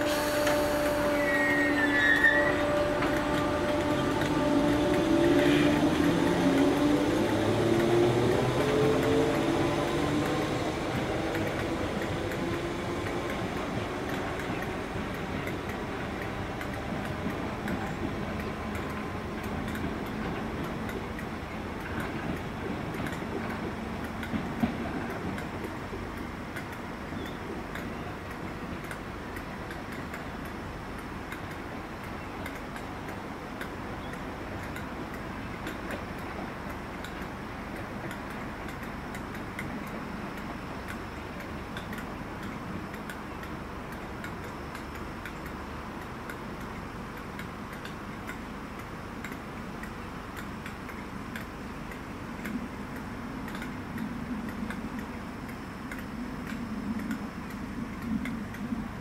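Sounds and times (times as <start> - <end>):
steady background hiss: 0.0 - 59.0
light ticks: 2.6 - 8.0, 8.6 - 59.0.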